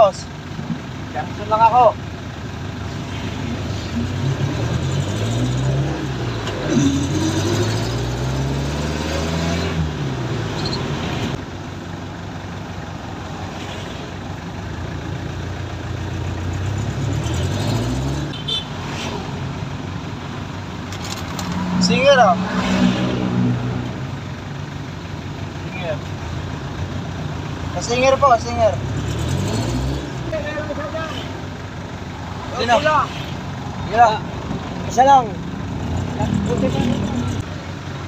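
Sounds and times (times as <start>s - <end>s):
diesel engine revving while driving: 0.0s - 38.0s.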